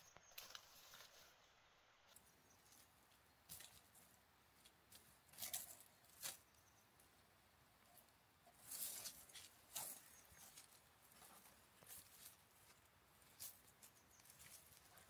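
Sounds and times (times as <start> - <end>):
dry grass and leaves rustling: 0.0 - 15.0.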